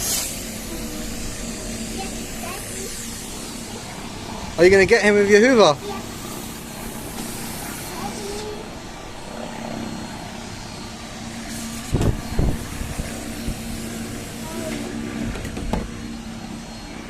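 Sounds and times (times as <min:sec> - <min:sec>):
motor drone: 0:00.0 - 0:17.0.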